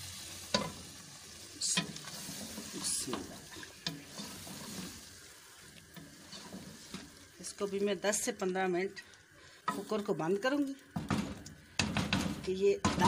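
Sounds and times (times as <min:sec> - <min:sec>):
meat sizzling in oil: 0:00.0 - 0:12.3.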